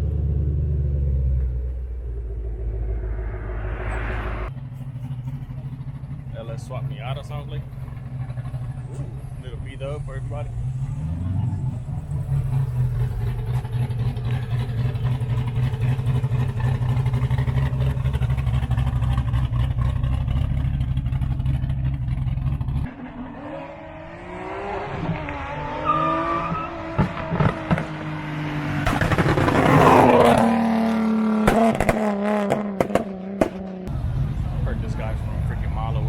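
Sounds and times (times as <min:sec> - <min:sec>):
car engine low rumble: 0:00.0 - 0:36.0
engine revving: 0:00.0 - 0:36.0.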